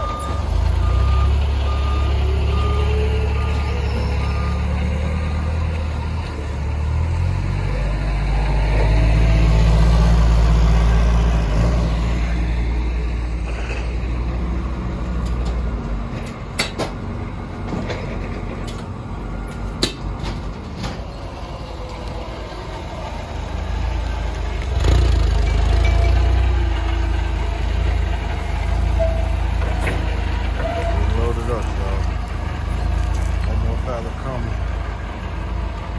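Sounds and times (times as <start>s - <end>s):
truck engine rumbling: 0.0s - 35.9s.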